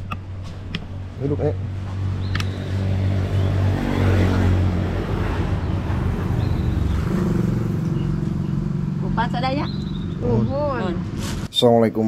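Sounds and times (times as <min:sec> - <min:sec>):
vehicle engine running: 0:00.0 - 0:11.2
vehicle passing: 0:00.2 - 0:11.5.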